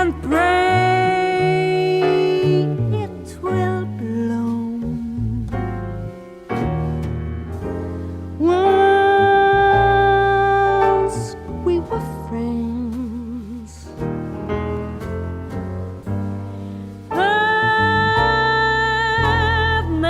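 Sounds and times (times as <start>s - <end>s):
piano chords: 0.0s - 20.0s
slow jazz ballad: 0.0s - 20.0s.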